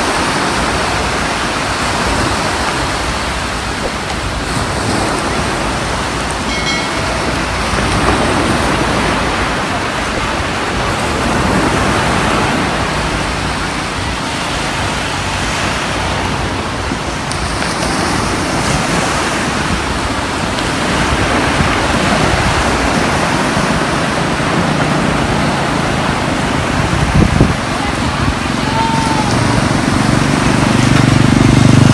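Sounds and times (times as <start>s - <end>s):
waves washing up a beach: 0.0s - 31.9s.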